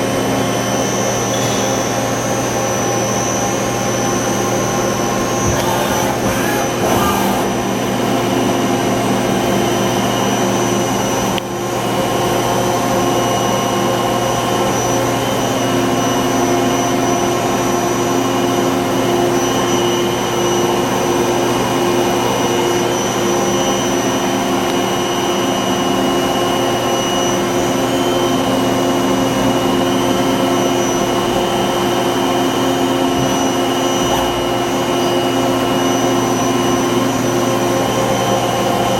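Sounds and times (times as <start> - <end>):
lathe running: 0.0 - 38.9.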